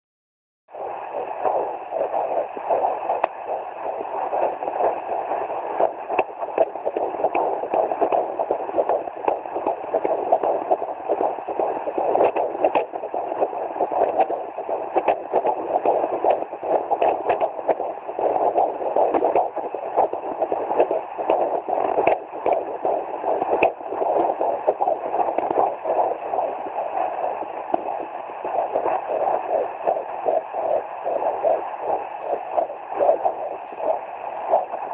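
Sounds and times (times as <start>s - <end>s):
pulsing heartbeat whoosh: 0.7s - 34.9s
static hiss: 0.8s - 34.9s.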